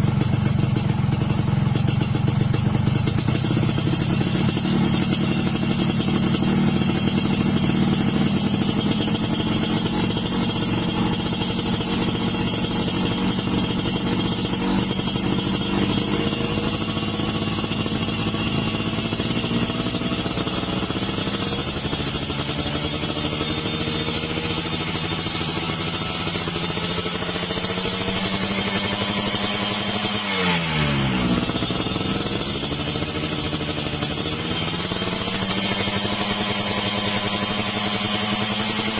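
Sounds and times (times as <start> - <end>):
two-stroke motorcycle engine running: 0.0 - 38.9.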